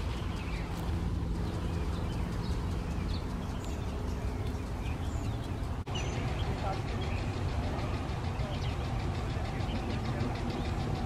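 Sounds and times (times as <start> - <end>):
high bird chirps: 0.0 - 11.0.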